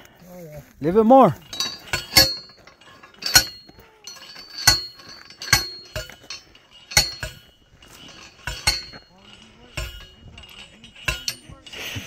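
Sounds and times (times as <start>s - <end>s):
post driver clanking on metal: 1.1s - 12.0s.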